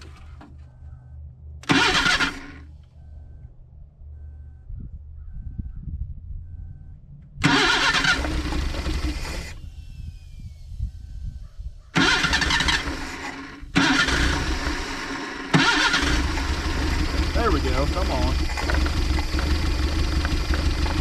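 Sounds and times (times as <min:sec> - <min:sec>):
car engine starting: 0:00.0 - 0:04.6, 0:07.4 - 0:10.6, 0:12.0 - 0:21.0.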